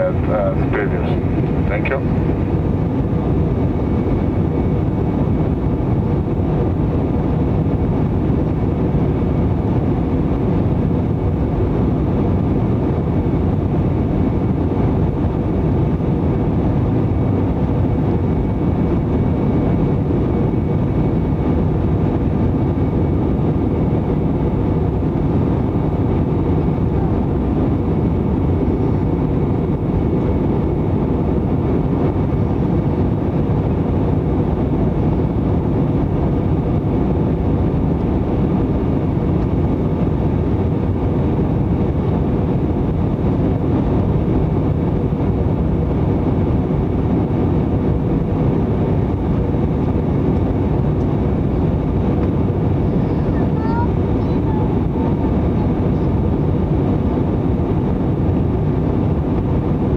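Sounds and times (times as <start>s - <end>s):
airplane cabin engine and airflow: 0.0s - 59.9s
faint steady whine: 0.0s - 59.9s.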